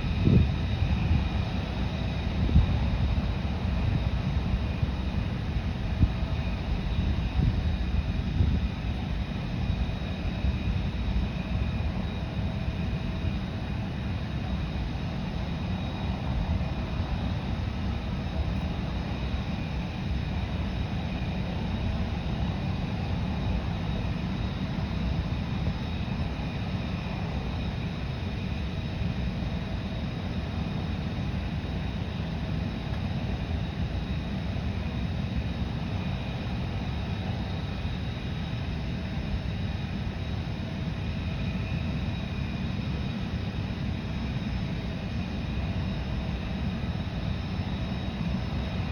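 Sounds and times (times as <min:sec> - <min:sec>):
aircraft engine rumble: 0:00.0 - 0:48.9
high-pitched engine whine: 0:00.0 - 0:48.9.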